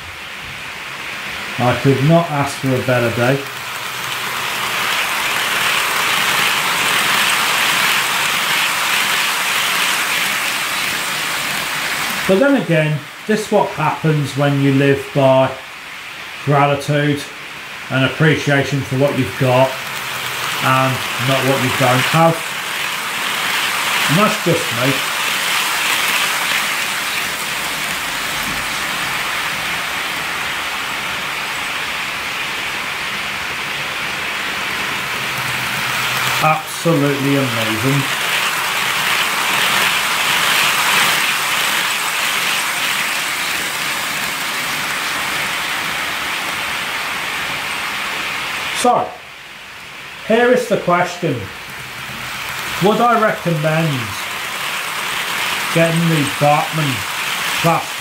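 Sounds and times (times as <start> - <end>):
model train running on track: 1.0 - 15.1, 17.8 - 32.7, 33.6 - 46.7, 50.6 - 58.0.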